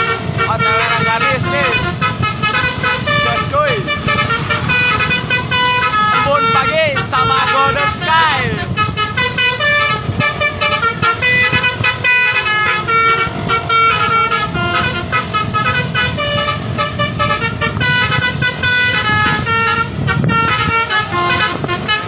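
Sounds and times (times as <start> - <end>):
low rumble of engines: 0.0 - 22.0
vehicle horns playing tones: 0.0 - 22.0.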